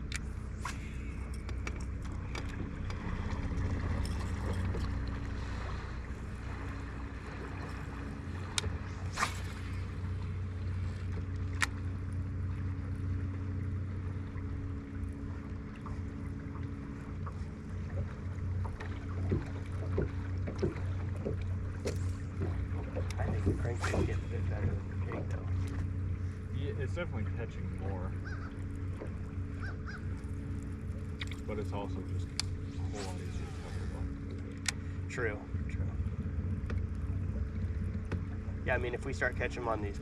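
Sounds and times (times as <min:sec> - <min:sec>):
boat motor humming: 0:00.0 - 0:40.0
water noise: 0:00.0 - 0:40.0
wind: 0:00.0 - 0:40.0.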